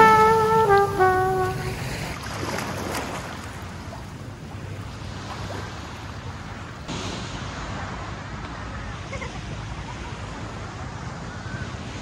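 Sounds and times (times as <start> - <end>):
calm surf: 0.0 - 12.0
wind: 0.0 - 12.0.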